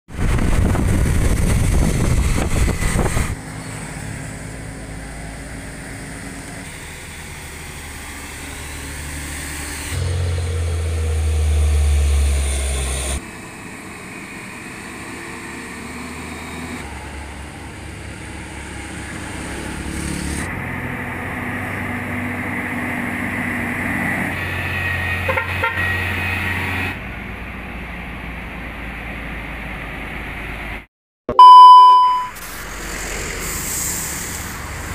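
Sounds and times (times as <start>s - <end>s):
diesel truck engines under load: 0.2s - 30.8s, 32.2s - 34.9s.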